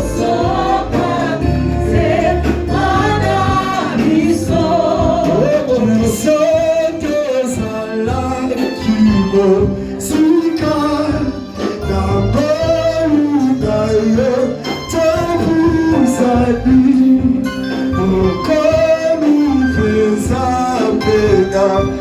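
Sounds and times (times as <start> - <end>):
band with guitar bass and drums: 0.0 - 22.0.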